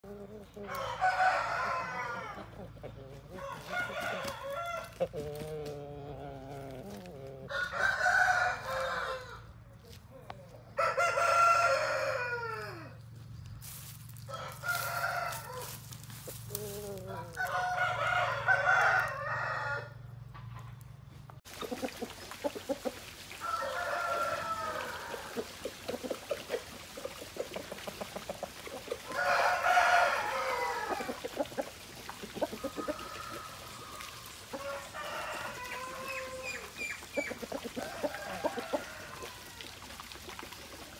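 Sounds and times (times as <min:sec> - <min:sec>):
roosters crowing: 0:00.0 - 0:09.7, 0:10.6 - 0:20.3, 0:22.7 - 0:39.9.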